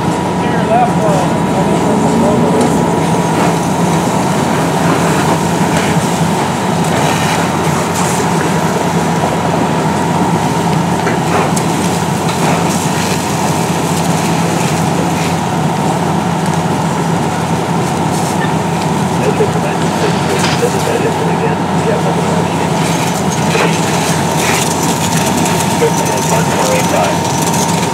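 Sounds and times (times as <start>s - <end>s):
fire engine pump droning: 0.0s - 27.9s.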